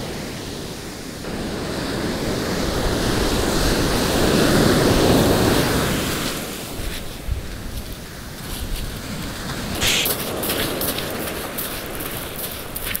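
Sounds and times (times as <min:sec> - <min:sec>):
waves breaking on gravel beach: 0:00.0 - 0:13.0.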